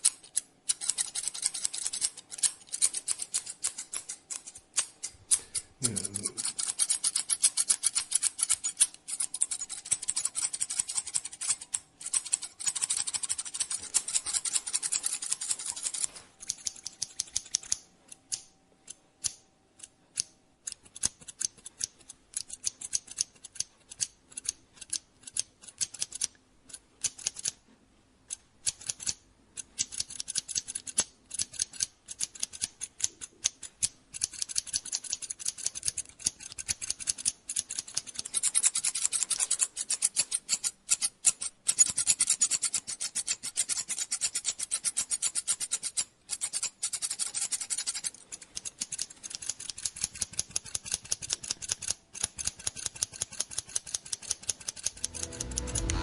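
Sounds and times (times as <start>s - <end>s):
scissors snipping hair: 0.0s - 27.6s, 28.3s - 56.0s.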